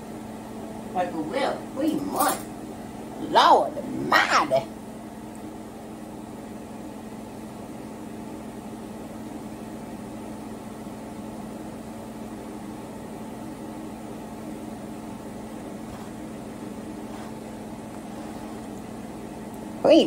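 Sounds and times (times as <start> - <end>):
household appliance humming: 0.0 - 20.0.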